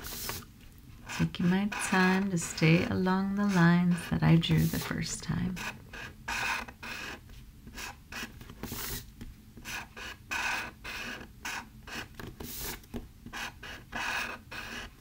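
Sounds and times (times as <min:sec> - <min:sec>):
marker scraping across paper: 0:00.0 - 0:15.0.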